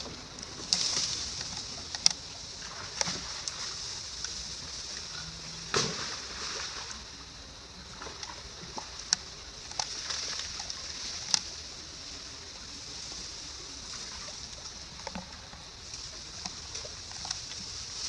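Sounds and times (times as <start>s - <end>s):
steady high hiss: 0.0s - 18.0s
water splashes and sloshes: 0.0s - 18.0s.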